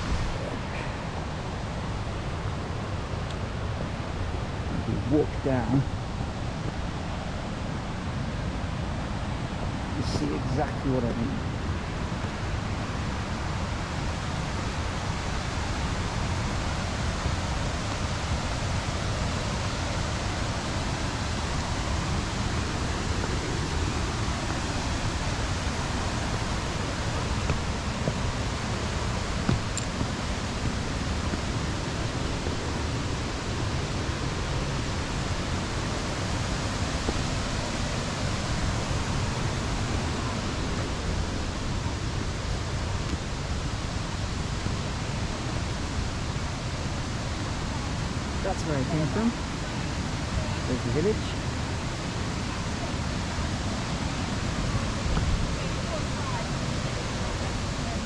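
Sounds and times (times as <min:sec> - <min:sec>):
waterfall rushing: 0:00.0 - 0:58.0
wind buffeting microphone: 0:00.0 - 0:58.0.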